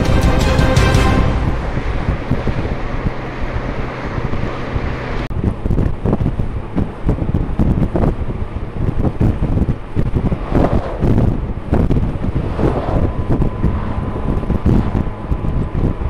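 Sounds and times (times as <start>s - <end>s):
wind rushing over microphone: 1.3s - 16.0s.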